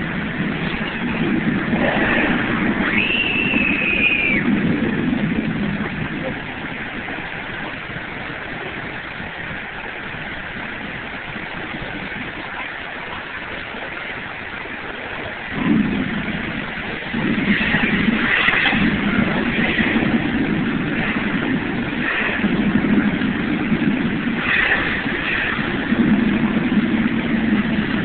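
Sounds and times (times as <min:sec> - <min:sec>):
deep rumbling: 0:00.0 - 0:28.0
waterfall rushing: 0:00.0 - 0:28.0.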